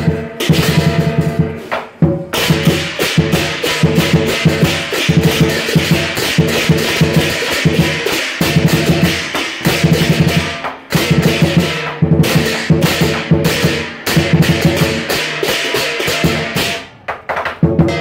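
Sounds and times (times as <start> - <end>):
cymbals and gong crashing: 0.0 - 16.9
big drum beaten fast: 0.0 - 17.0, 17.6 - 18.0.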